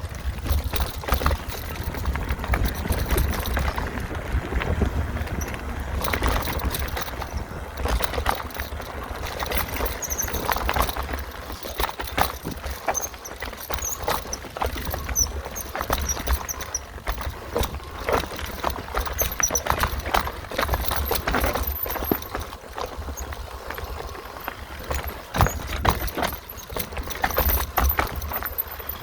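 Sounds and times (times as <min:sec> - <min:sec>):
bike rattling over bumps: 0:00.0 - 0:29.0
wind rumbling on microphone: 0:00.0 - 0:29.0.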